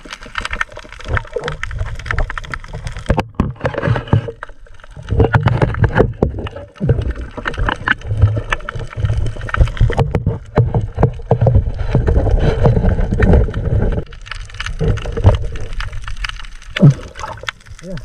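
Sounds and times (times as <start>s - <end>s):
sharp underwater clicks and knocks: 0.0s - 18.0s
underwater rumble and gurgling: 0.0s - 18.0s.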